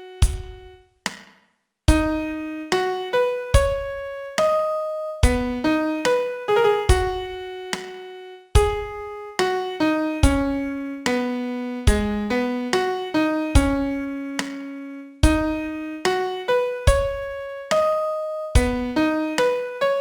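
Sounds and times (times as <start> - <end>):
slow piano melody: 1.9 - 20.0.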